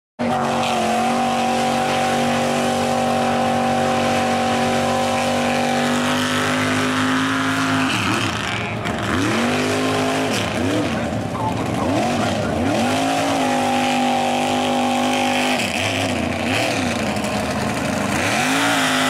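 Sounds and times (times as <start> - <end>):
truck engine revving: 0.2 - 19.0.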